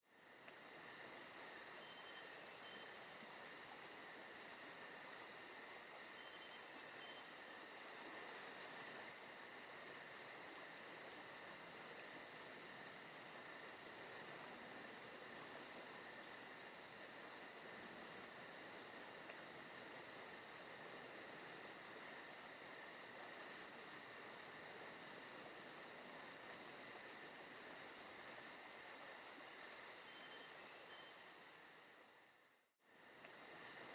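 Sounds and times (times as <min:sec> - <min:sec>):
crickets chirring: 0:00.1 - 0:07.8, 0:08.4 - 0:33.9.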